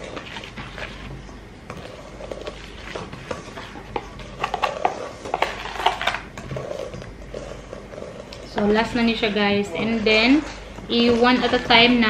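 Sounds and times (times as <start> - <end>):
wooden spoon scraping bowl: 0.0 - 12.0.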